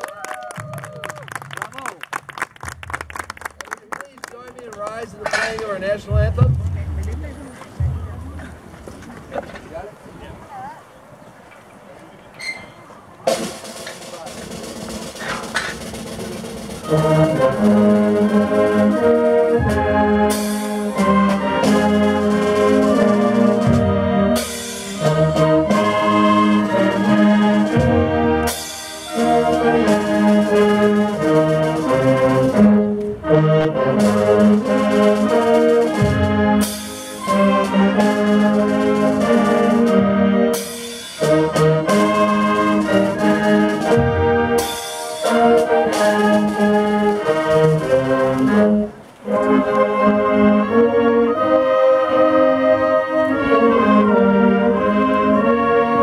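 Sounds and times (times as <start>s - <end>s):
concert band playing brass music: 2.6s - 8.7s, 12.4s - 56.0s.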